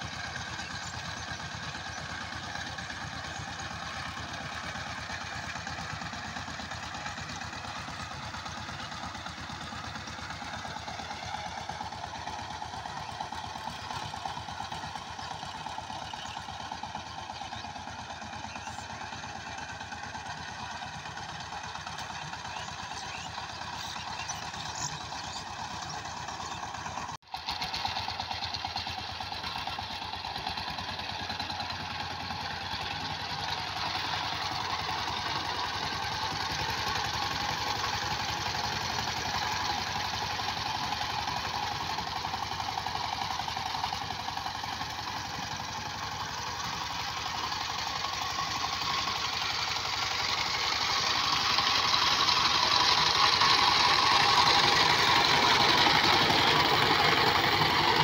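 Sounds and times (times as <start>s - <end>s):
diesel power tiller running: 0.0s - 58.0s.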